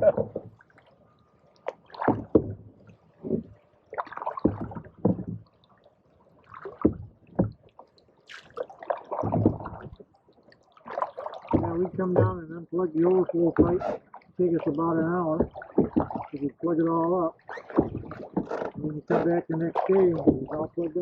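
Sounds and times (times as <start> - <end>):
canoe paddles splashing in water: 1.6 - 21.0.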